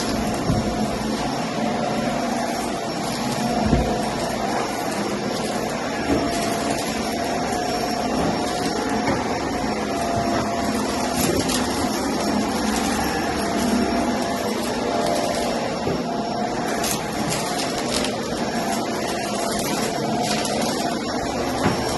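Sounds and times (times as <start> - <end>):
vacuum cleaner on carpet: 0.0 - 21.9.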